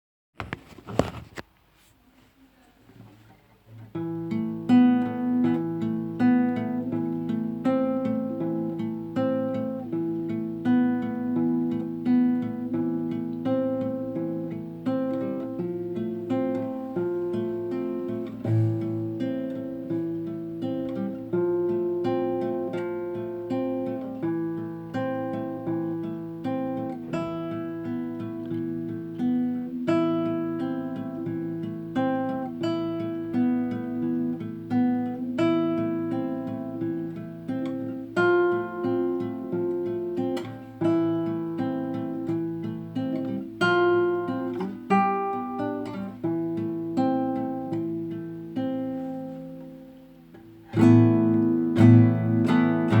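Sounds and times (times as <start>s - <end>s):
classical guitar fingerpicking: 3.0s - 53.0s.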